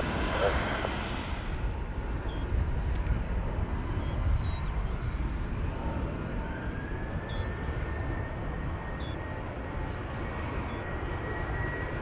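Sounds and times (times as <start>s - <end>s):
distant jet engines rumbling: 0.0s - 12.0s
faint thin whine: 0.0s - 12.0s.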